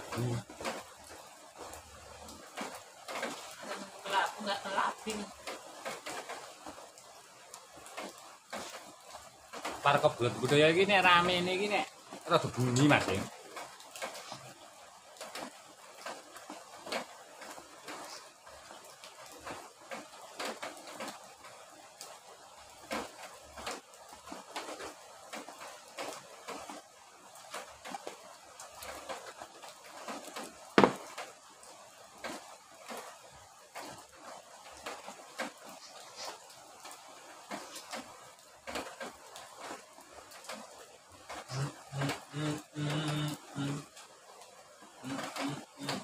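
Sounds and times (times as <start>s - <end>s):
raindrops dripping: 0.0s - 46.0s
soft steady hiss: 0.0s - 46.0s.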